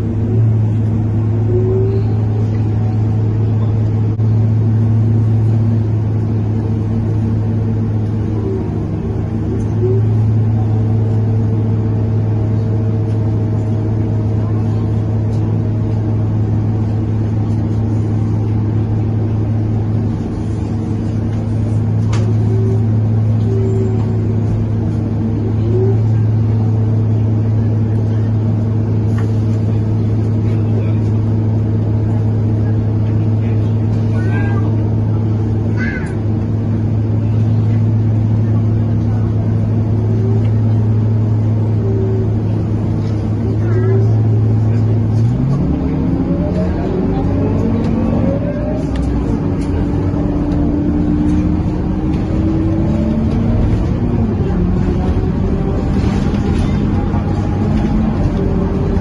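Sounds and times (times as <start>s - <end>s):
diesel engine: 0.0s - 59.0s.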